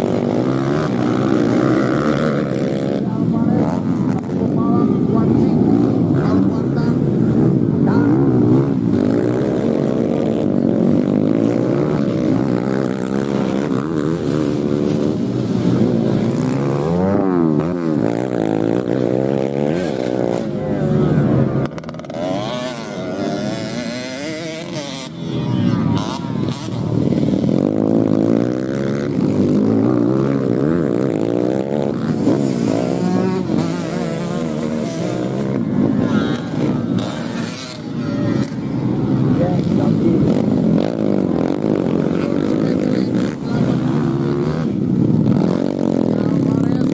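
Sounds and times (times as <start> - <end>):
dirt bike engines revving: 0.0 - 46.9.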